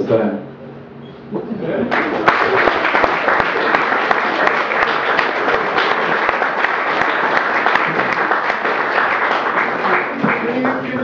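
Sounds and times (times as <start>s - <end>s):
audience applauding: 1.9s - 11.0s.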